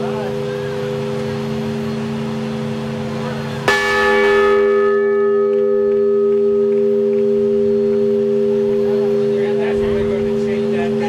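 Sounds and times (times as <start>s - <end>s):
low bell hum: 0.0s - 11.0s
school bell ringing: 0.0s - 11.0s.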